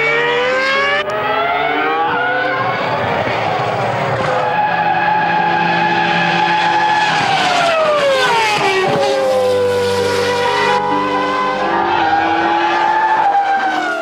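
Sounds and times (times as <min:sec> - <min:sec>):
racing car engine high revs: 0:00.0 - 0:14.0.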